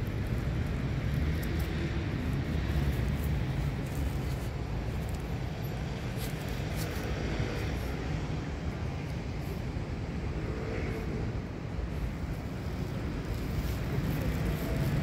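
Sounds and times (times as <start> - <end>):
street ambience rumble: 0.0 - 15.0.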